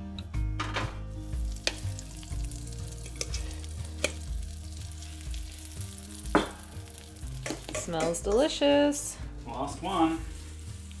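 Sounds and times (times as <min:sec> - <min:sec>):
batter sizzling in a skillet: 0:01.1 - 0:08.6, 0:09.6 - 0:11.0.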